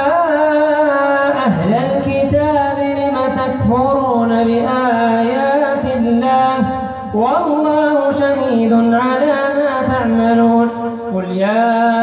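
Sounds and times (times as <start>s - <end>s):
man chanting recitation: 0.0s - 12.0s.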